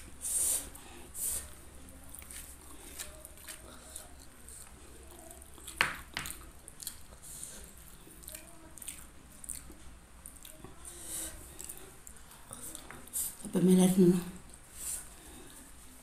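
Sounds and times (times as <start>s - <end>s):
closed-mouth chewing: 0.0s - 13.4s.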